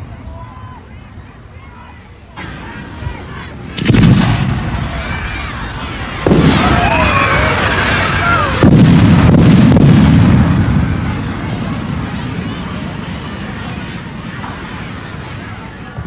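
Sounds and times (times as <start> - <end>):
fireworks booming: 2.4 - 16.0.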